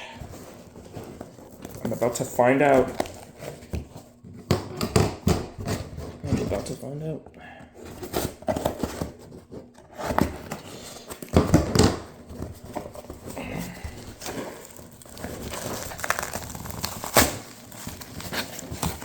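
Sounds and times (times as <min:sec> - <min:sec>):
cardboard tearing and crinkling: 0:00.2 - 0:06.8, 0:07.8 - 0:19.0.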